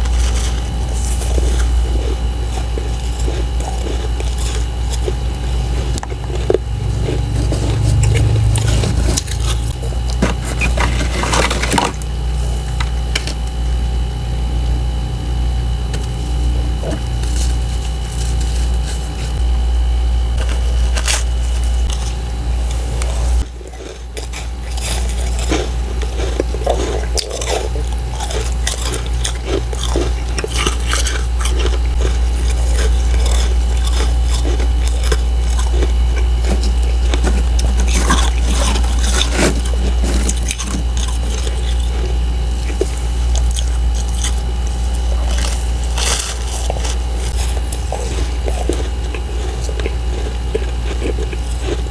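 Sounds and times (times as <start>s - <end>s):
chewing crunchy frost ice: 0.0s - 51.9s
steady low hum: 0.0s - 51.9s.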